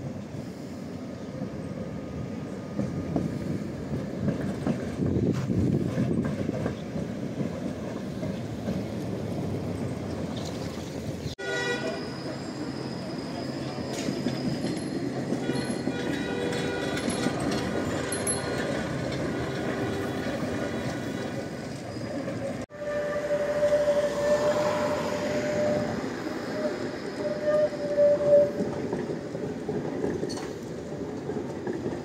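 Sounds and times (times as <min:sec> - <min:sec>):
tram wheels rumbling: 0:00.0 - 0:32.0
tram whine: 0:00.0 - 0:32.0.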